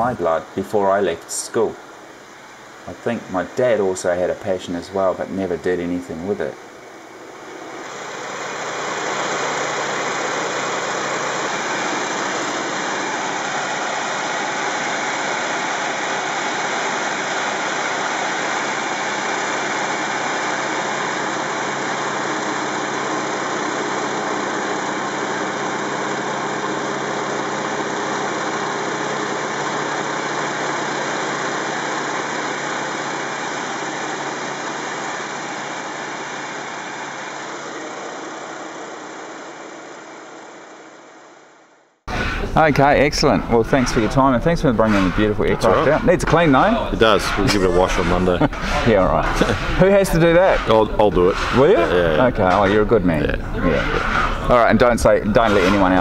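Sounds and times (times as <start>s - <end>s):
radial aircraft engine droning: 0.0s - 56.0s.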